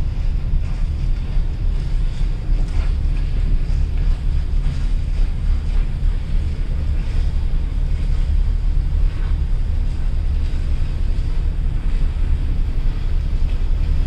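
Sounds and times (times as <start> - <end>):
ship moving on water: 0.0 - 14.0
wind buffeting microphone: 0.0 - 14.0.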